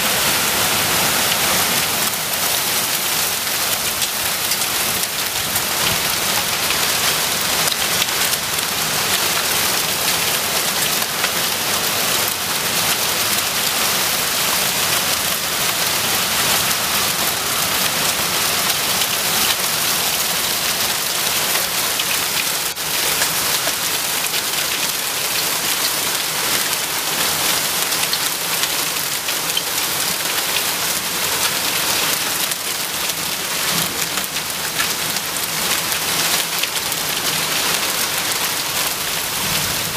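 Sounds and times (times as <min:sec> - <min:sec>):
heavy rain and hail: 0:00.0 - 0:39.9.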